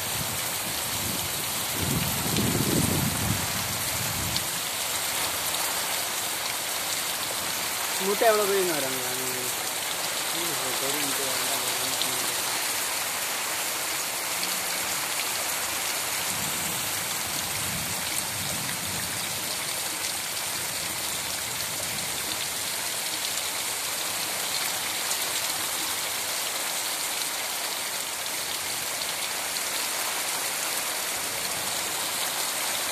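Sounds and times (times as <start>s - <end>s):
heavy rain on soil: 0.0s - 32.9s.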